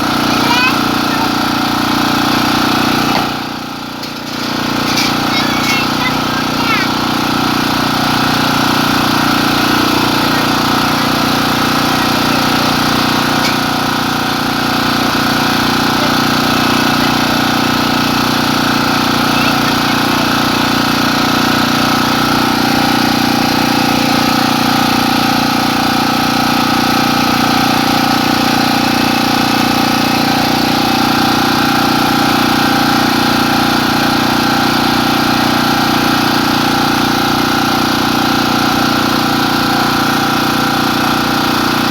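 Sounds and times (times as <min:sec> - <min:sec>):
small engine idling: 0:00.0 - 0:41.9.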